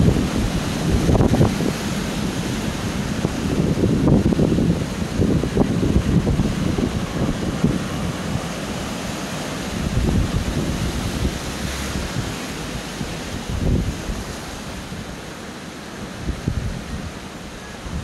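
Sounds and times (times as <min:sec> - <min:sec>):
wind buffeting microphone: 0:00.0 - 0:15.4, 0:16.0 - 0:18.0
surf breaking over rocks: 0:00.0 - 0:18.0.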